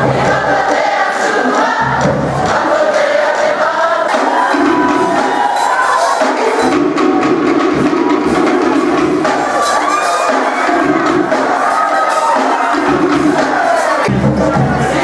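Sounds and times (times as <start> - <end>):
group of voices singing: 0.0 - 15.0
musical accompaniment: 0.0 - 15.0.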